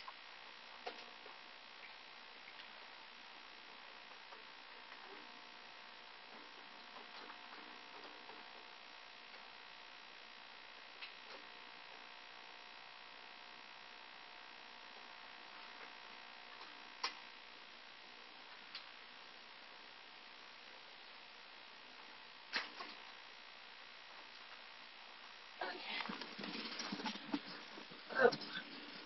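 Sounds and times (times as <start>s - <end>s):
room hiss and hum: 0.0s - 29.0s.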